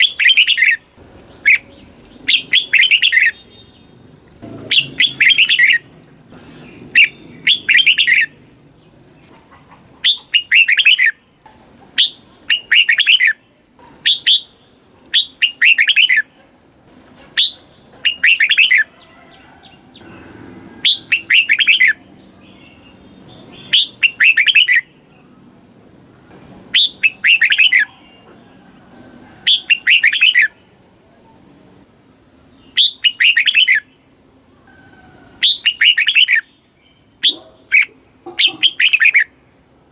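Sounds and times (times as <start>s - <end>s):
bulbul singing: 0.0s - 9.3s, 10.0s - 11.4s, 12.0s - 16.3s, 17.4s - 18.9s, 19.6s - 30.7s, 32.0s - 34.6s, 35.4s - 39.4s.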